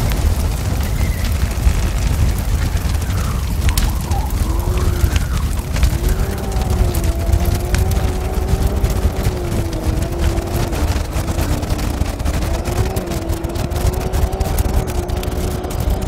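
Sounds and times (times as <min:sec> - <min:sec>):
low rumble of the ride: 0:00.0 - 0:16.0
scattered clicks: 0:00.0 - 0:16.0
utv engine droning: 0:02.0 - 0:16.0.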